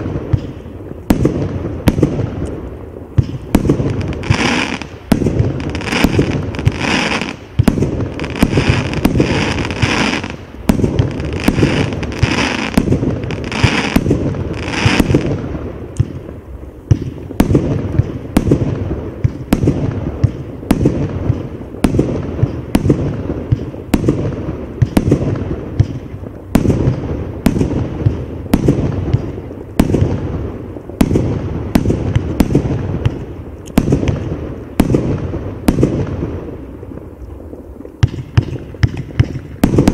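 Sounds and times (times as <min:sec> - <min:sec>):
fireworks cake firing: 0:00.0 - 0:39.9.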